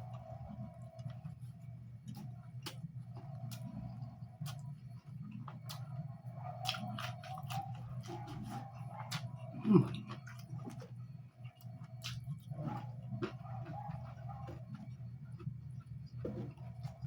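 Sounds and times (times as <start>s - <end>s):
steady low hum: 0.0s - 17.0s
close chewing with wet smacks: 0.1s - 17.0s.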